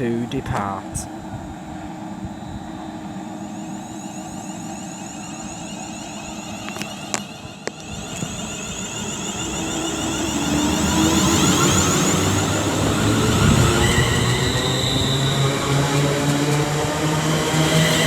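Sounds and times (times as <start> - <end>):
electric train humming: 0.0 - 18.0
traction motor whine: 0.0 - 18.0.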